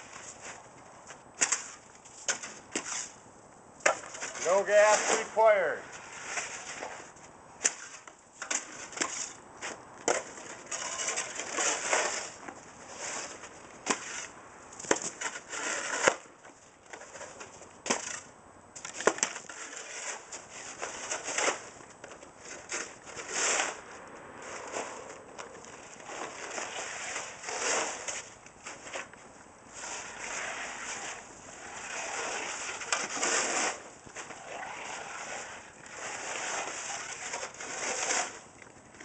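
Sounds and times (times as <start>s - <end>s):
shovels scraping icy snow: 0.0s - 0.8s, 1.4s - 3.2s, 3.8s - 18.3s, 18.9s - 21.8s, 22.4s - 29.1s, 29.7s - 38.6s.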